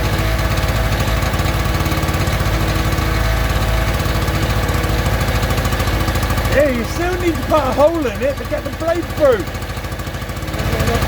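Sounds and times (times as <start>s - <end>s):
small two-stroke engine running: 0.0s - 11.0s.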